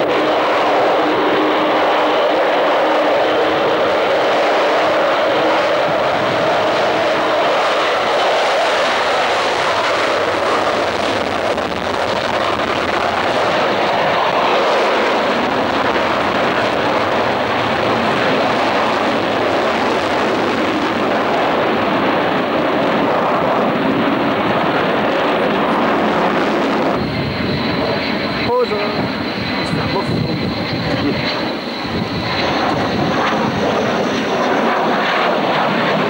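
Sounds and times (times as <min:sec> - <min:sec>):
jet aircraft roaring: 0:00.0 - 0:36.0.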